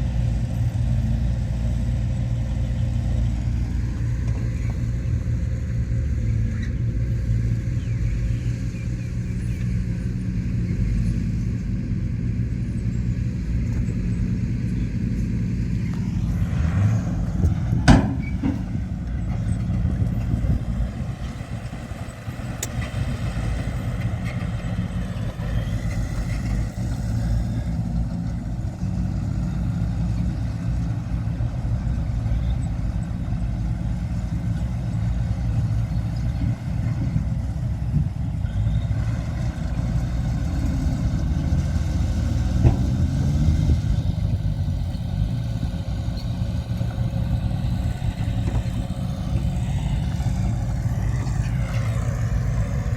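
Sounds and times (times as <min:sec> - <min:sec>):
heavy diesel machinery engine: 0:00.0 - 0:52.9.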